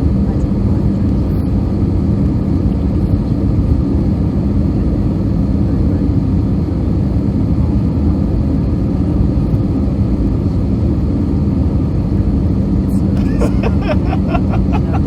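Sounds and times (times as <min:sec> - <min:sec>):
airplane cabin engine rumble: 0:00.0 - 0:15.0
faint steady hum: 0:00.0 - 0:15.0.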